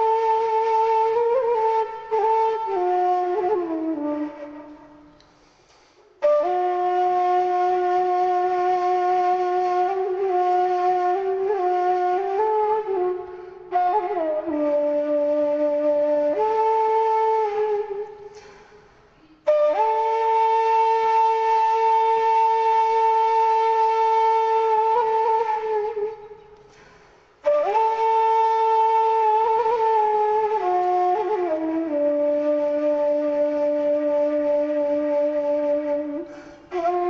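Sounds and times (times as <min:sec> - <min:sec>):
flute-like wind instrument music: 0:00.0 - 0:18.5, 0:19.2 - 0:26.8, 0:27.4 - 0:37.0.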